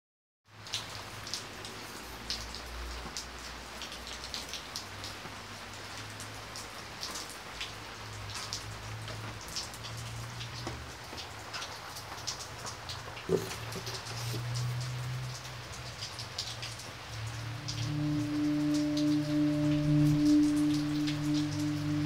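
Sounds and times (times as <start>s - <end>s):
steady rain falling: 0.5s - 22.0s.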